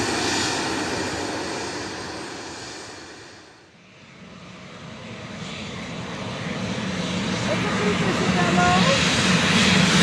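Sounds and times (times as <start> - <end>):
jet airliner engine noise: 0.0 - 10.0.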